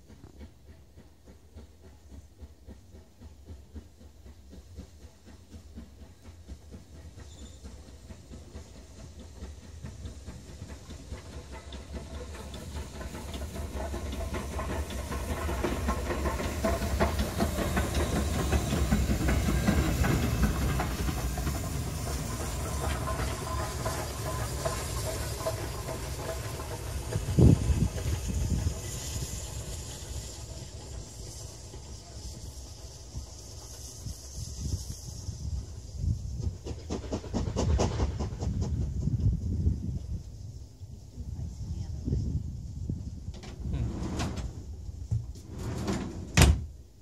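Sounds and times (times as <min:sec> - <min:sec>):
train wheels clicking on rail joints: 0:00.0 - 0:41.0, 0:42.5 - 0:47.0
steam locomotive hissing: 0:00.0 - 0:47.0.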